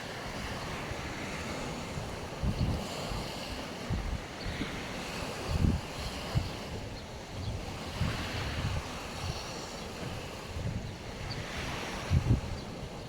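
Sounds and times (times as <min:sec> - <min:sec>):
sea waves washing onto shore: 0:00.0 - 0:13.0
wind buffeting microphone: 0:00.0 - 0:13.0.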